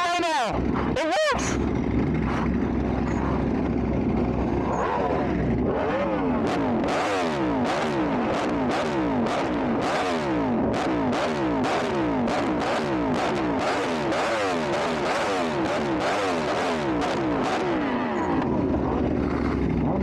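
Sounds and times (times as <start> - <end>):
engine revving up and down: 0.0 - 20.0.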